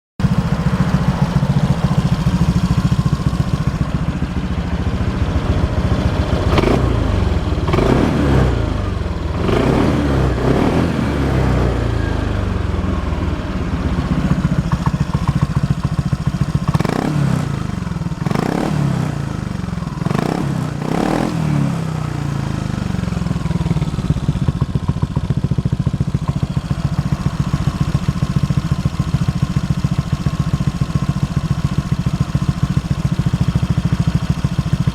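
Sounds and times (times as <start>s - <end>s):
scooter engine idling and revving: 0.2s - 34.9s.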